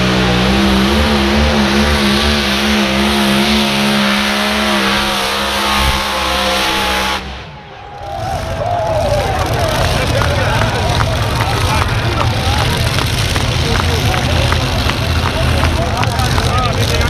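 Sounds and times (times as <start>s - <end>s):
tractor engine running loud: 0.0s - 17.0s.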